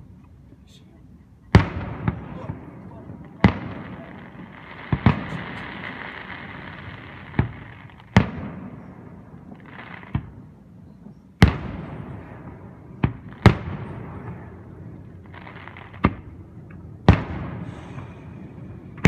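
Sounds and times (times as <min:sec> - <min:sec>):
fireworks bursting with sharp booms: 0:01.5 - 0:19.0.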